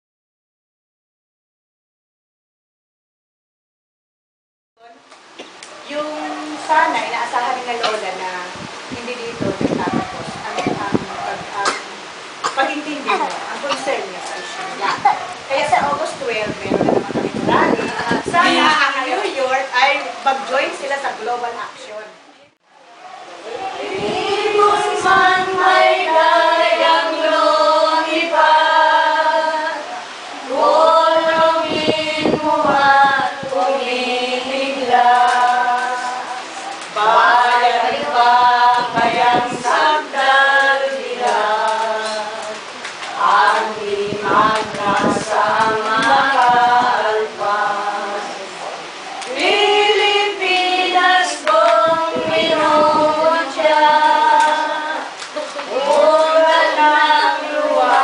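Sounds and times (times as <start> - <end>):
women singing unaccompanied: 5.8 - 21.5, 23.5 - 58.0.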